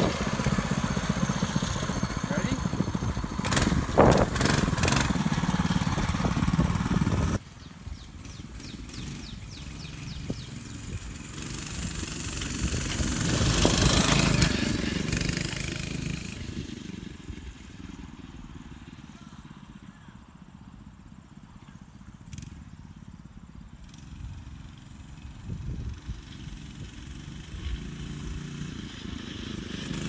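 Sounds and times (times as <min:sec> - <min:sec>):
mini bike engine passing by: 0:00.0 - 0:30.0.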